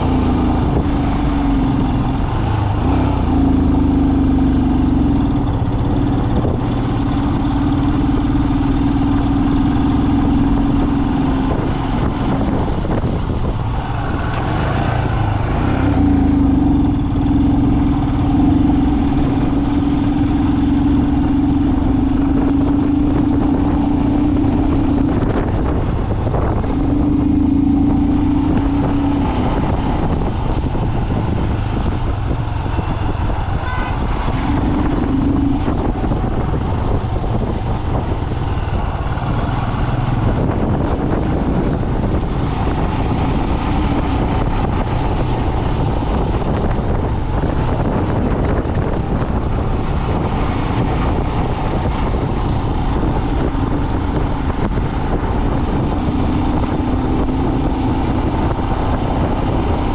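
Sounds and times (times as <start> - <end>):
road noise: 0.0 - 59.9
vehicle engine drone: 0.0 - 59.9.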